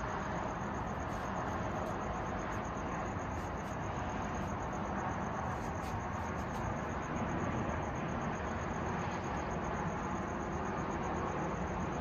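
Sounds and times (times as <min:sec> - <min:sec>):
cricket chirping: 0:00.0 - 0:12.0
distant traffic hum: 0:00.0 - 0:12.0.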